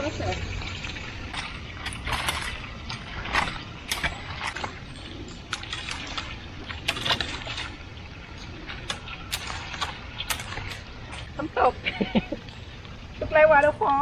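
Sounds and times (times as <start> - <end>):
low background wash: 0.0 - 14.0.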